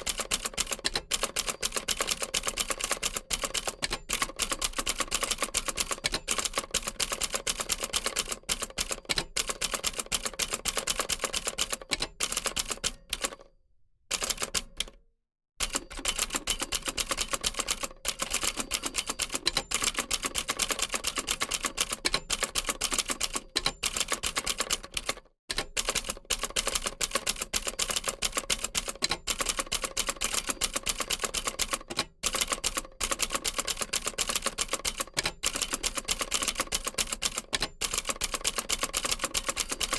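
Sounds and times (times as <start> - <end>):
typewriter typing: 0.0 - 13.4, 14.1 - 15.0, 15.6 - 39.9.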